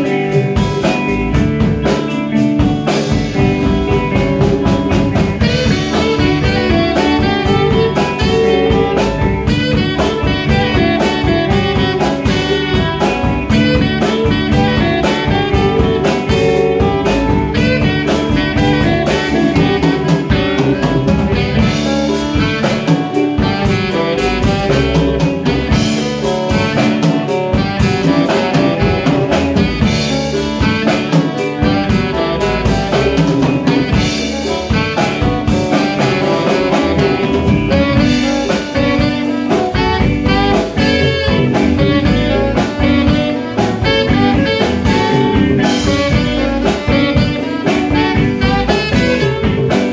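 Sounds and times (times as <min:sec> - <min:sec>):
bass guitar: 0:00.0 - 0:49.9
drum kit: 0:00.0 - 0:49.9
electric guitar: 0:00.0 - 0:49.9
saxophones: 0:00.0 - 0:49.9.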